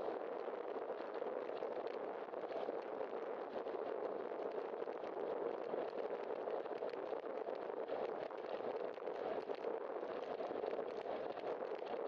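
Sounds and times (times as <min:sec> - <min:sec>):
fine crackle of ticks: 0:00.1 - 0:12.0.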